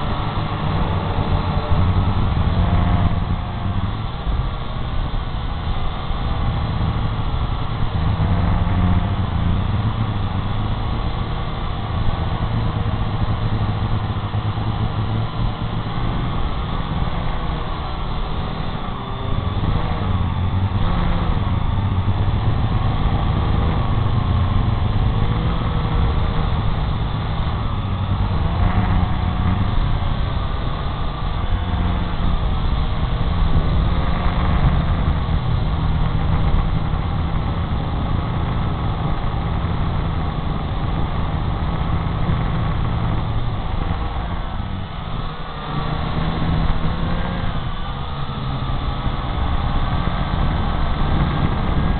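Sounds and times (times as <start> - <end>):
drone propellers buzzing: 0.0 - 51.9
rotor wash and wind rumble: 0.0 - 51.9.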